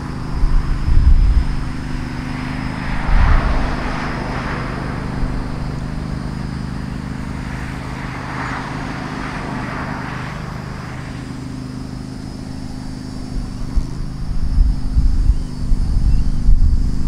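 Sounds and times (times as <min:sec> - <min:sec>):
diesel locomotive engine droning: 0:00.0 - 0:17.0
heavy uneven low rumble: 0:00.0 - 0:17.0.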